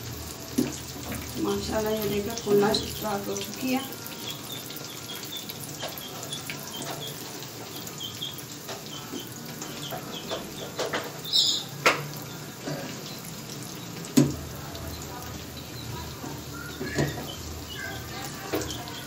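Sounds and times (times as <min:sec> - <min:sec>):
oil sizzling and crackling: 0:00.0 - 0:19.0.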